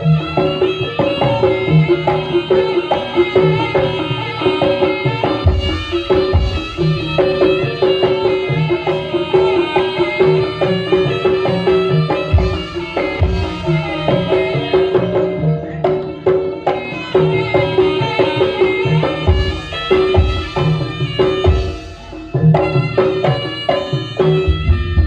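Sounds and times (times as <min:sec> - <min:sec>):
hand drums: 0:00.0 - 0:25.0.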